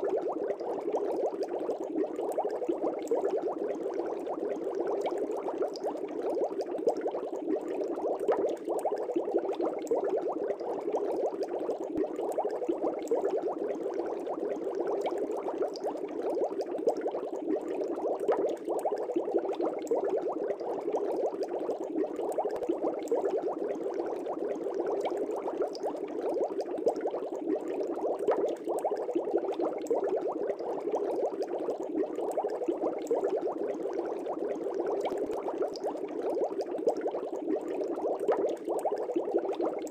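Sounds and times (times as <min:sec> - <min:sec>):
fish tank bubbling: 0:00.0 - 0:39.9.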